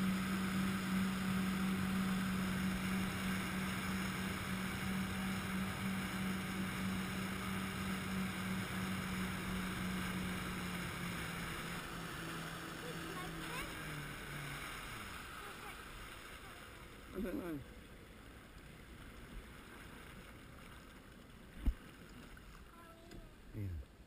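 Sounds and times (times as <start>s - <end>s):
jet ski engine running: 0.0s - 22.0s
water wash: 0.0s - 23.8s.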